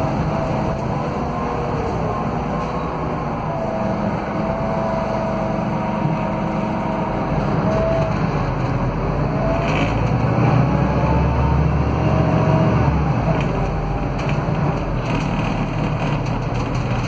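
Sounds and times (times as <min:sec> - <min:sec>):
diesel bus engine drone: 0:00.0 - 0:17.0
rear axle whine: 0:00.0 - 0:17.0.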